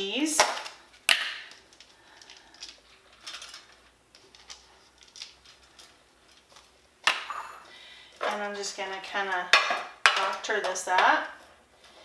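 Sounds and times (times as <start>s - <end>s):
cheese rustling and pattering: 0.6s - 12.0s.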